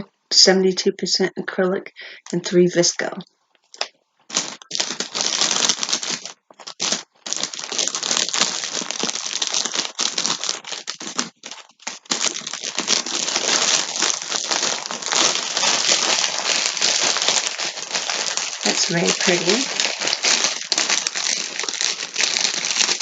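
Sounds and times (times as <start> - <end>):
plastic packaging crinkling: 3.6 - 23.0.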